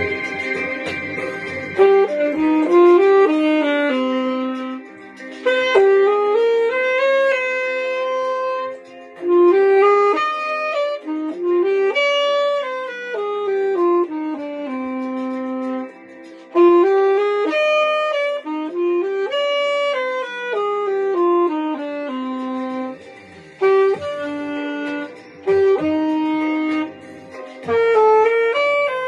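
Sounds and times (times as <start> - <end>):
solo instrument melody: 0.0 - 29.0.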